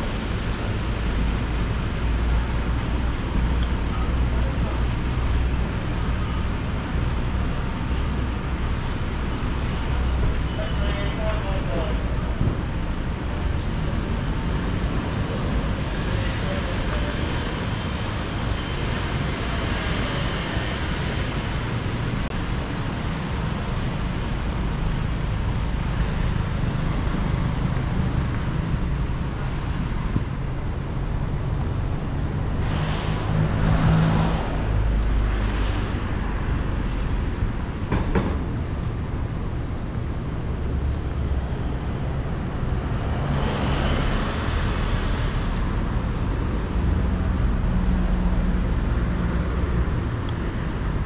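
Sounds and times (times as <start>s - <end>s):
road traffic engine rumble: 0.0s - 51.0s
vehicles passing: 0.0s - 51.0s.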